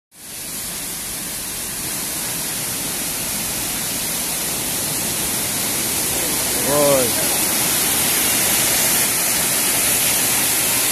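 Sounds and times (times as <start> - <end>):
waterfall and rushing stream: 0.2 - 10.9.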